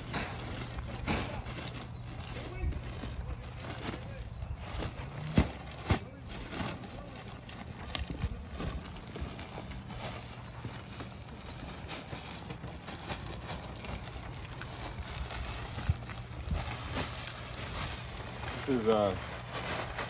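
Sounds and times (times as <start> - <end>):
bag rustling: 0.0 - 20.0.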